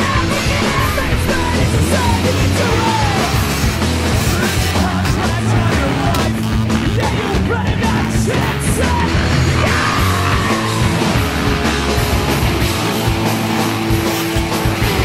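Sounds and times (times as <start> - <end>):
loud rock song with shouted vocals: 0.0 - 15.0.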